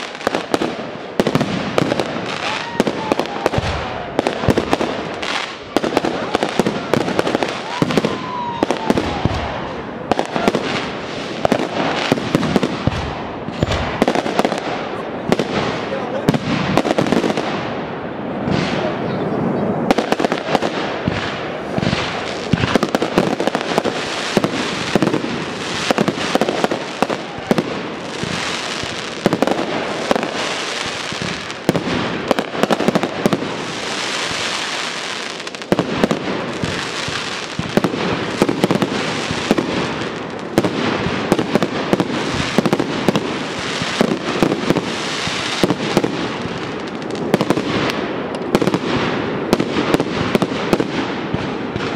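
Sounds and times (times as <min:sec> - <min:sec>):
fireworks bursting: 0:00.0 - 0:51.9
fireworks crackle and hiss: 0:00.0 - 0:51.9.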